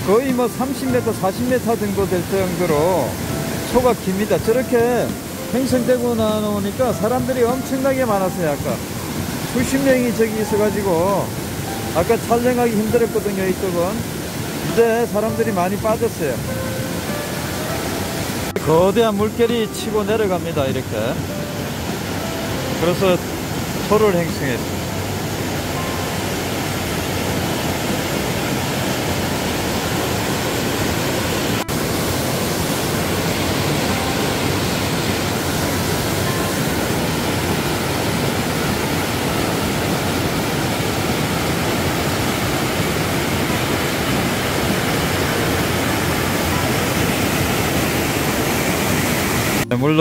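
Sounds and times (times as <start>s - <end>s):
stream rushing over rocks: 0.0s - 49.8s.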